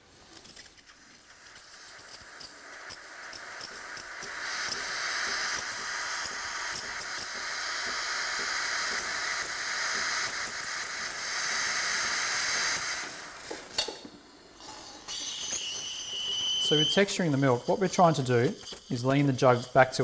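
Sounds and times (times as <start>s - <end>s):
steam wand hissing: 0.2s - 13.8s, 14.5s - 20.0s.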